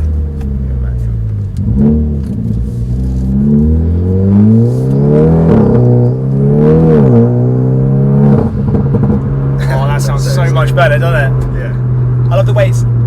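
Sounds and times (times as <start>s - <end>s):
car engine revving through exhaust: 0.0s - 13.0s.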